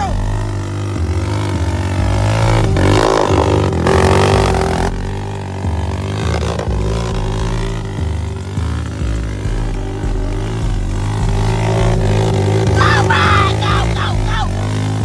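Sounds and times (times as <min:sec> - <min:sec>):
music with deep bass line: 0:00.0 - 0:15.0
quad bike engine revving: 0:00.0 - 0:15.0.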